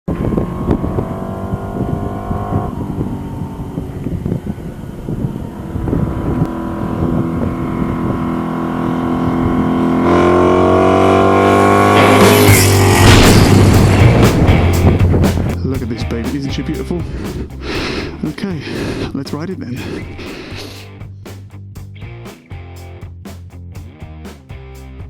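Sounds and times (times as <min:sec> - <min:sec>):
motorcycle engine running: 0:00.1 - 0:25.0.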